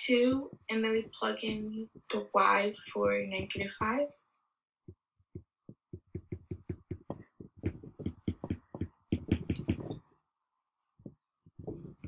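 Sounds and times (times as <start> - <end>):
stylus tapping on tablet screen: 0.1 - 4.0, 4.9 - 10.1, 11.0 - 12.0.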